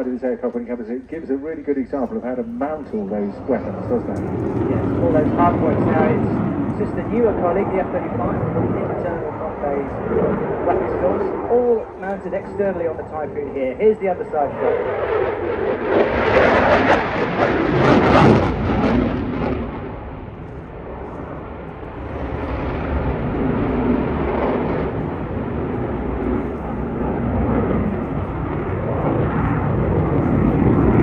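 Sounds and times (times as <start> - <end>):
loud jet noise: 0.0 - 31.0.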